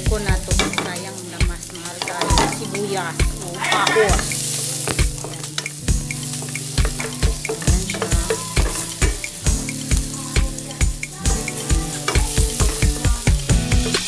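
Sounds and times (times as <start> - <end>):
wooden spoon stirring: 0.0 - 13.5
background music with steady beat: 0.0 - 14.0
onion sizzling in hot oil: 0.0 - 14.0.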